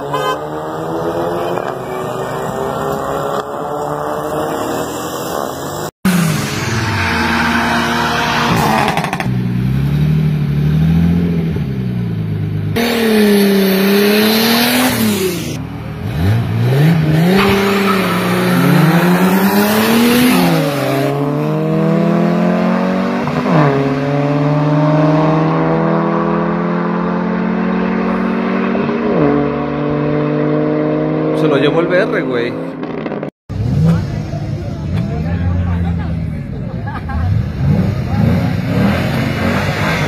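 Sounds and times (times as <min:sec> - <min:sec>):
car engines revving hard: 0:00.0 - 0:40.0.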